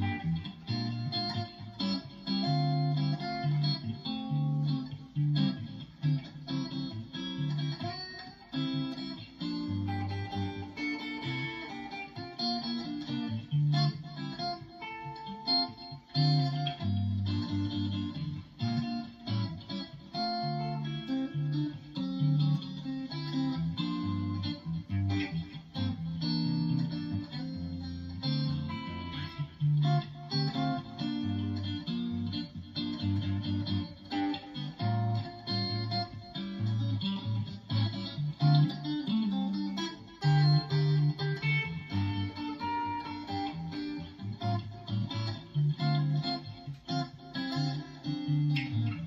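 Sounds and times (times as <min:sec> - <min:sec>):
electric guitar playing chords: 0:00.0 - 0:49.0.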